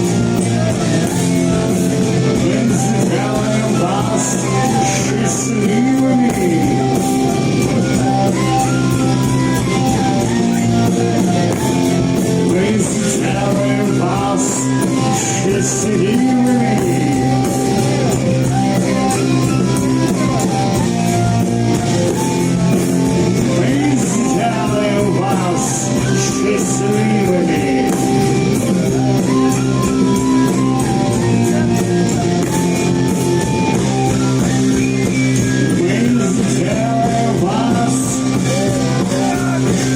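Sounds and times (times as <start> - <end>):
bass guitar: 0.0 - 39.9
drums: 0.0 - 39.9
electric guitar: 0.0 - 39.9.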